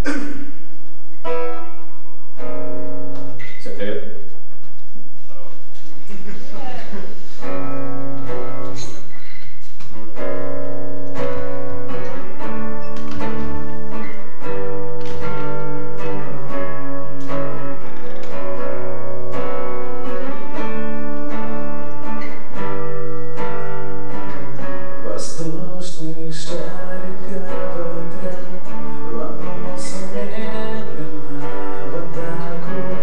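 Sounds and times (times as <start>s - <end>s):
acoustic guitar strummed: 0.0s - 5.2s, 5.8s - 33.0s.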